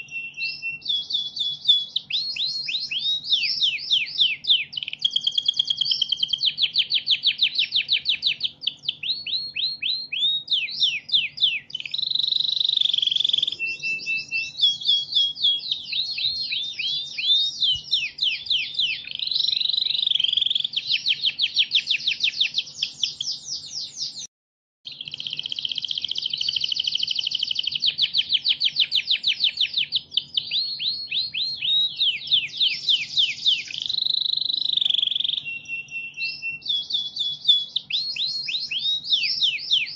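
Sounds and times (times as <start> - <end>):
canary singing: 0.0 - 24.3, 24.9 - 39.9.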